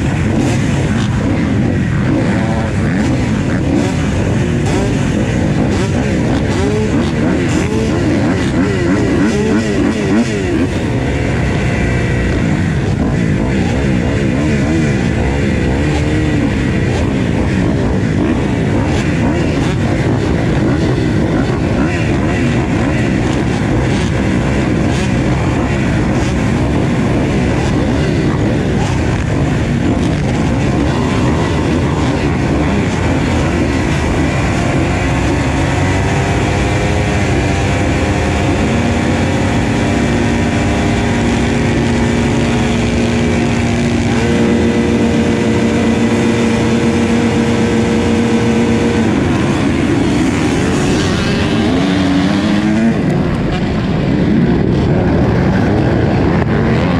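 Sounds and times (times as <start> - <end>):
motocross engines revving: 0.0 - 56.9.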